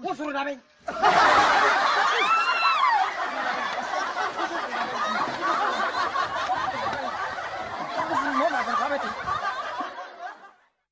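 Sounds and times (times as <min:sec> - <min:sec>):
people laughing and snickering: 0:00.8 - 0:10.8.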